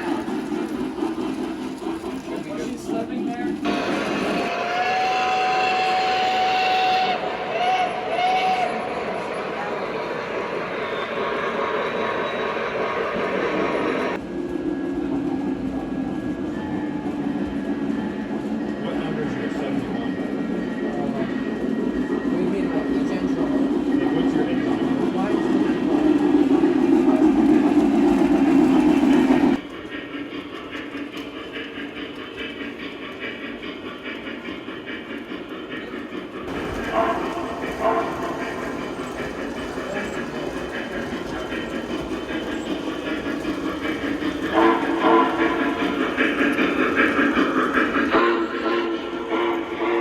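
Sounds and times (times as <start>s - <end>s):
model train rolling on track: 0.0s - 50.0s.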